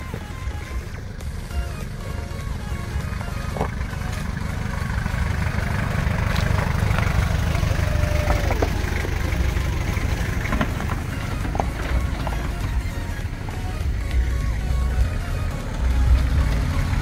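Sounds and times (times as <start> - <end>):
vehicle engine rumbling at low revs: 0.0 - 17.0.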